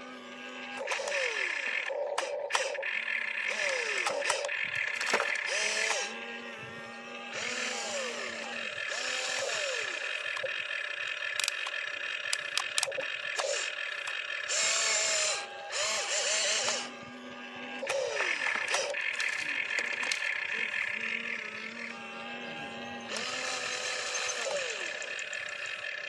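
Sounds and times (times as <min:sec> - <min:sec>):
toy excavator motors whining: 0:00.0 - 0:26.0.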